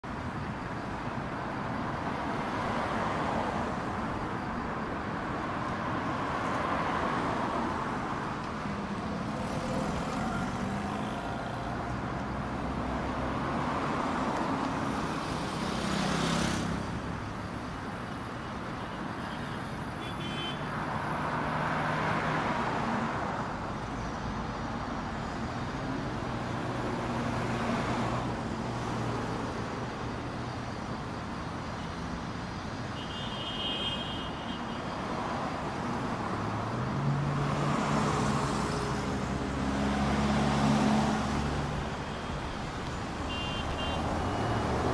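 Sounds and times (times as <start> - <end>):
cars passing: 0.0 - 44.9.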